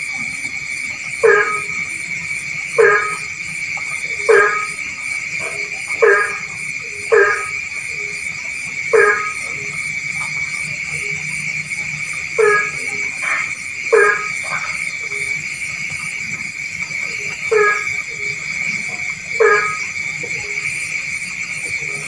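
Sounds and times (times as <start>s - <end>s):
frog croaking: 0.0s - 22.0s
high-pitched frog chorus: 0.0s - 22.0s
fast high pulsing: 0.8s - 22.0s.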